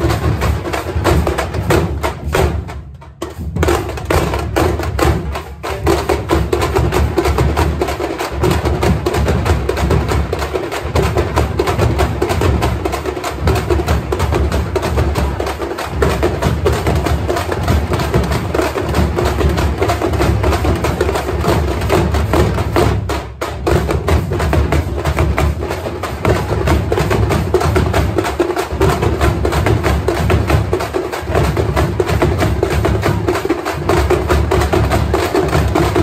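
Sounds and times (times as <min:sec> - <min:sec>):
frame drums beaten with sticks: 0:00.0 - 0:36.0
large barrel drums: 0:00.0 - 0:36.0.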